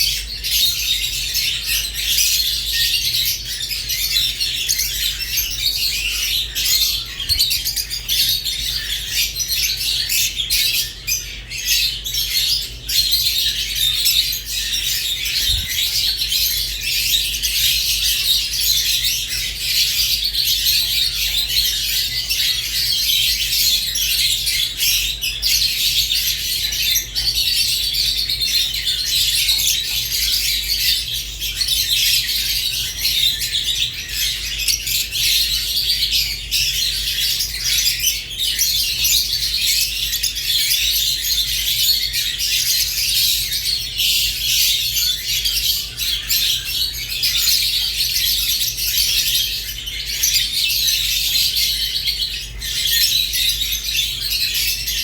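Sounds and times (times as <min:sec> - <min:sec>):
lovebirds chirping and squawking: 0:00.0 - 0:55.0.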